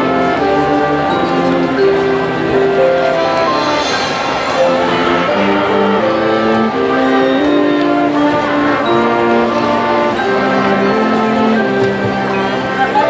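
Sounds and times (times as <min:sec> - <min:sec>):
marching band brass chords: 0:00.0 - 0:13.0.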